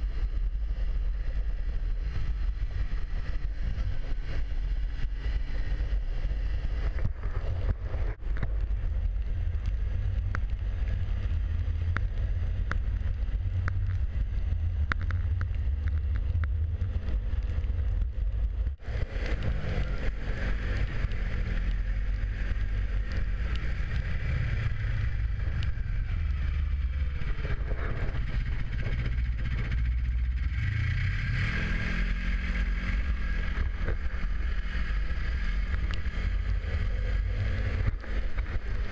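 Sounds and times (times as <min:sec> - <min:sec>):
snowmobile engine droning: 0:00.0 - 0:38.9
wind rumble on microphone: 0:00.0 - 0:38.9.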